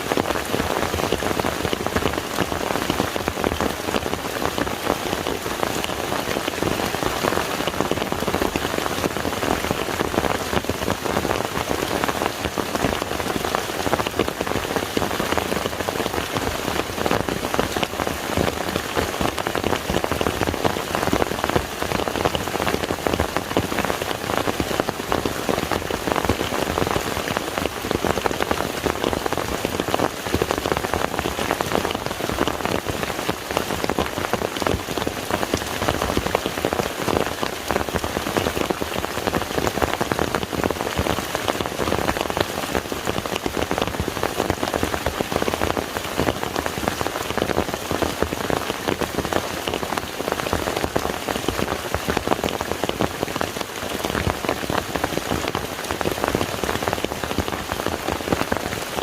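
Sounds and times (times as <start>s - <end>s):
rain falling on a lake: 0.0s - 59.0s.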